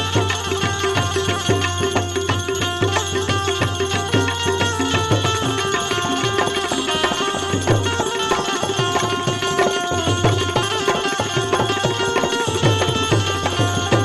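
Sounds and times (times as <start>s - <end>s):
hand drums playing: 0.0s - 14.0s
melodic instrument held notes: 0.0s - 14.0s.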